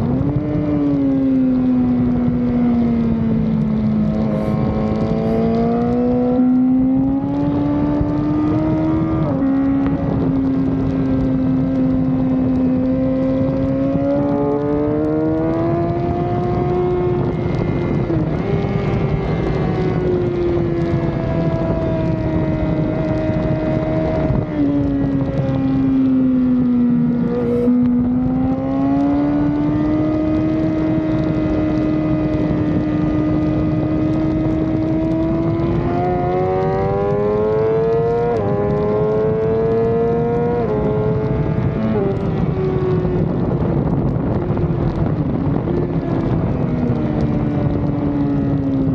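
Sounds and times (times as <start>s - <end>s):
motorcycle engine revving: 0.0s - 48.9s
wind rushing over camera: 0.0s - 48.9s.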